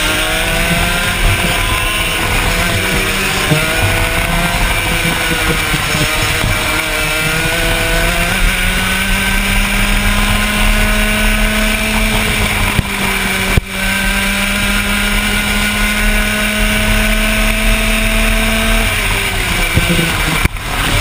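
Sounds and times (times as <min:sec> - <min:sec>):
kart engine accelerating: 0:00.0 - 0:21.0.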